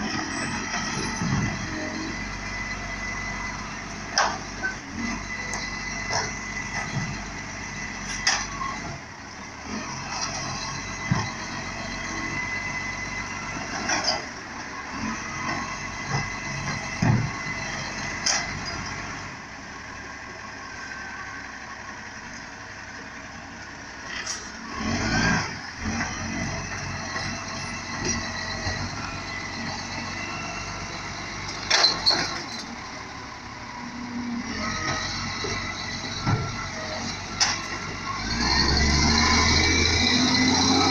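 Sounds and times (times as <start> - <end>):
garbage truck engine running: 0.0 - 40.9.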